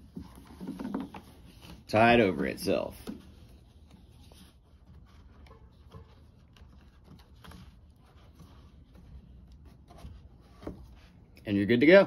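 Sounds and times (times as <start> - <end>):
strap rustling and ticking: 0.0 - 11.4.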